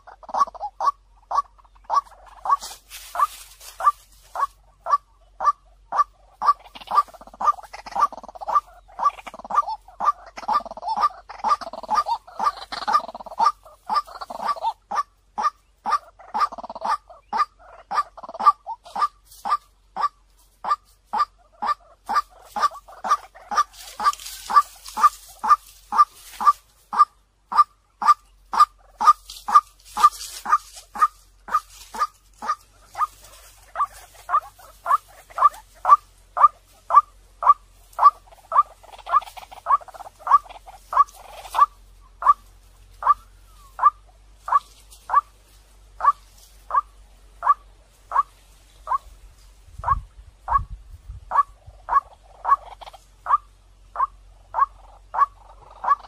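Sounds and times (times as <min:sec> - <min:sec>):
waterhen calling: 0:00.0 - 0:49.2, 0:49.8 - 0:56.0.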